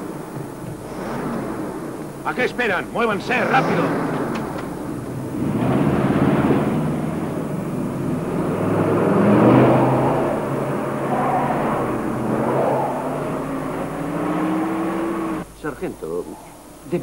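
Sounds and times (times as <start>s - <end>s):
engine running with rising pitch: 0.0s - 15.6s.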